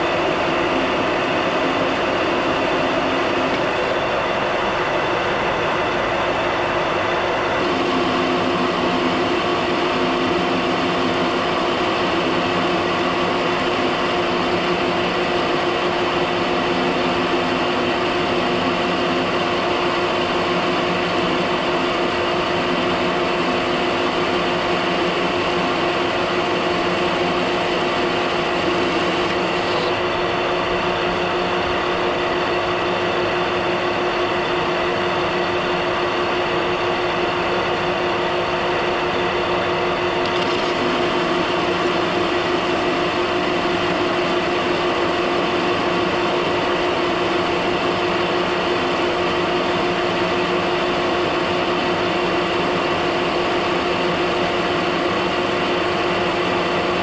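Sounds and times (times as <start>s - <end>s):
metal lathe humming and whining: 0.0s - 57.0s.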